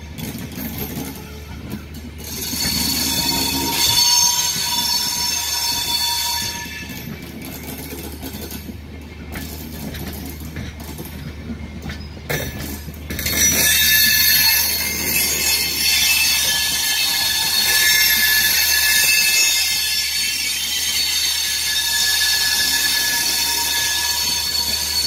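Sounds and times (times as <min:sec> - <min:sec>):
train wheel squeal: 0:00.0 - 0:25.0
train wheels rumbling on track: 0:00.0 - 0:25.0.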